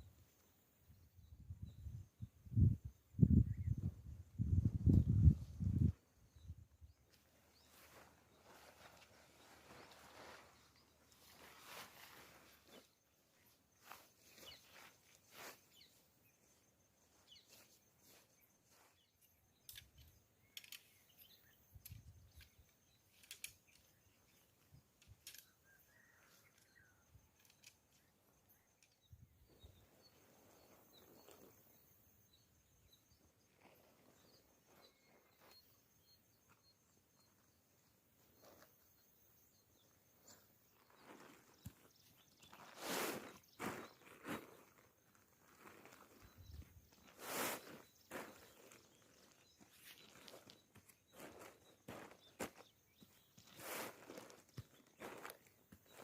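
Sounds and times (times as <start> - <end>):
faint chirp: 0.0 - 56.0.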